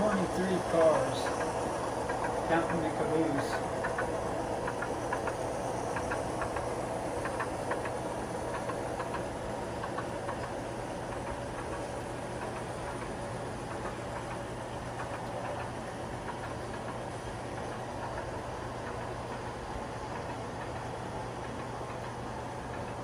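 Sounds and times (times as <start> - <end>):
train running with steady hum: 0.0 - 23.0.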